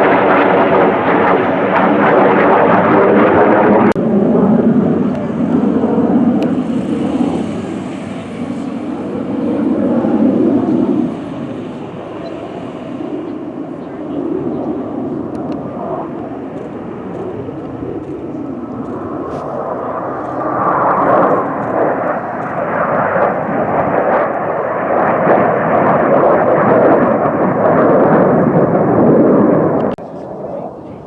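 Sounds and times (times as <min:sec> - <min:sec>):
airplane engine drone: 0:00.0 - 0:31.0.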